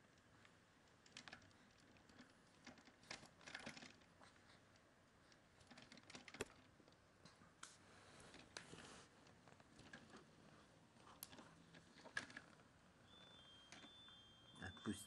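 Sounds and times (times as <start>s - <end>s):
faint clicks and taps: 0.0s - 12.7s.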